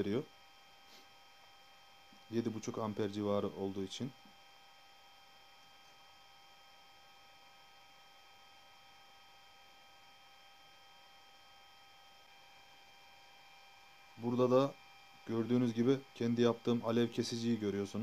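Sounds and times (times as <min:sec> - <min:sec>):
faint high-pitched hum: 0:00.0 - 0:18.0.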